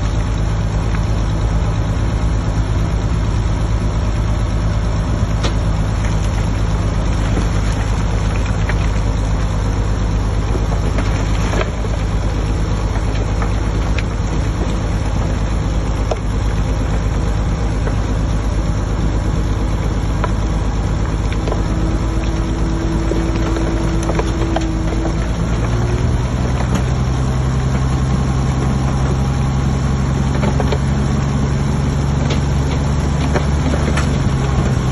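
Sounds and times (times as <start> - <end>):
diesel engine running: 0.0 - 34.9
steady whine: 0.0 - 34.9.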